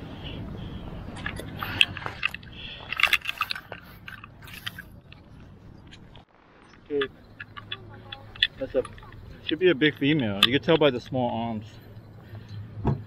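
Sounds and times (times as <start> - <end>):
low steady rumble: 0.0 - 13.0
crabs clicking and scraping: 1.0 - 12.5.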